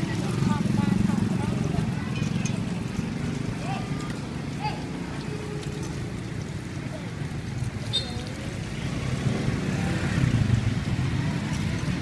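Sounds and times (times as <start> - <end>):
motorbike traffic rumble: 0.0 - 12.0.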